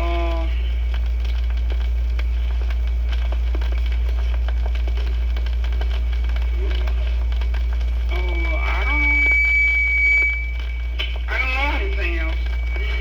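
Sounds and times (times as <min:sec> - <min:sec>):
steady low hum: 0:00.0 - 0:13.0
vinyl record crackle and clicks: 0:00.0 - 0:13.0.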